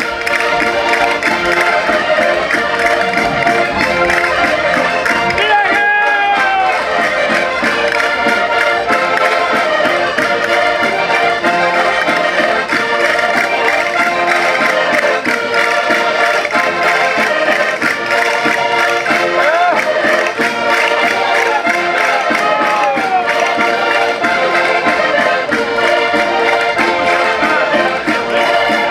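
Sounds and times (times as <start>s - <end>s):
concertinas playing folk dance tune: 0.0s - 28.9s.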